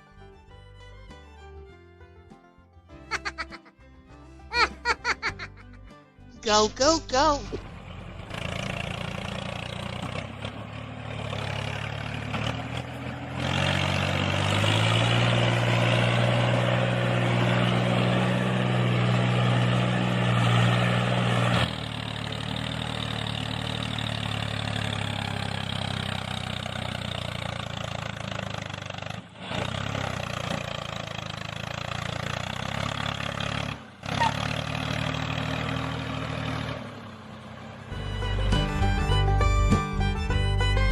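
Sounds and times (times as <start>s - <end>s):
engine droning: 4.2s - 40.9s.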